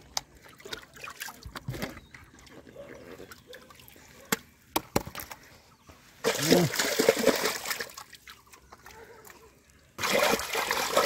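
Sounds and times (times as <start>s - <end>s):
water trickling and splashing: 0.0s - 4.2s, 6.2s - 11.0s.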